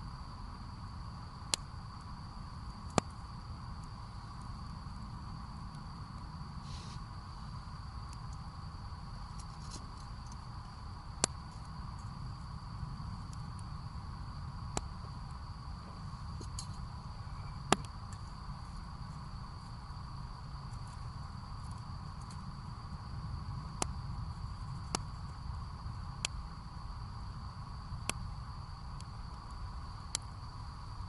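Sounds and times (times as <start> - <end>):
high insect trill: 0.0 - 31.0
wood fire popping: 1.4 - 30.4.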